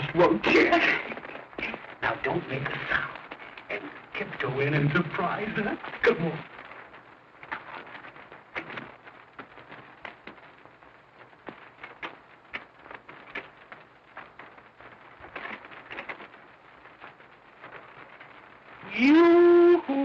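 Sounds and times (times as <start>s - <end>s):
film soundtrack clicks and crackle: 0.0s - 20.0s
low hiss: 0.0s - 20.0s.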